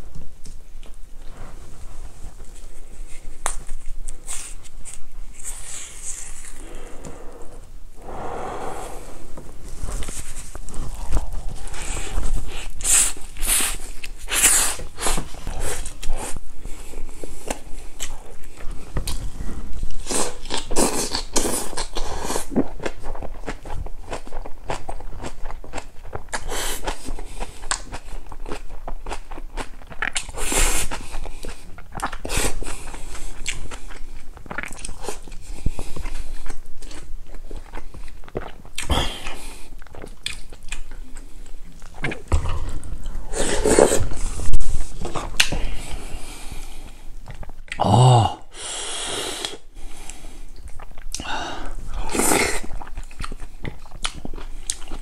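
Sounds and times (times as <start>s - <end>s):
crunchy food chewing: 2.3s - 46.2s, 49.5s - 55.0s.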